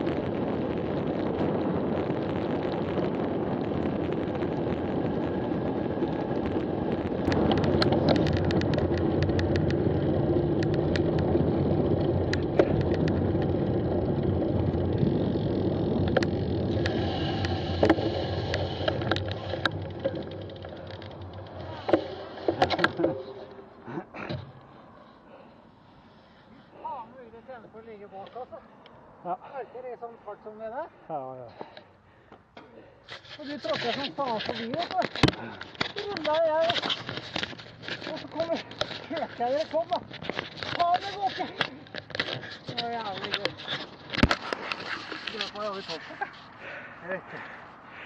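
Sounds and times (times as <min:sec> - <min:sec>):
bike clicks and rattles: 0:00.0 - 0:25.5, 0:31.6 - 0:48.0
wind and tyre rush: 0:00.0 - 0:48.0.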